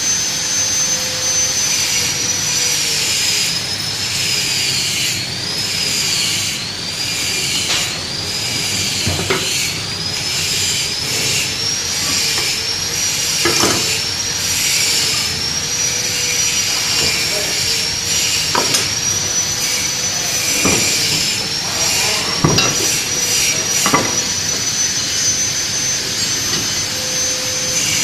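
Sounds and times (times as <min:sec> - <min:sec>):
power tool whining: 0:00.0 - 0:28.0.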